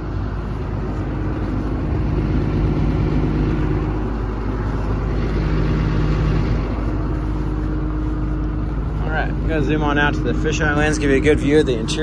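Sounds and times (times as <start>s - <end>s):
excavator diesel engine idling: 0.0s - 12.0s.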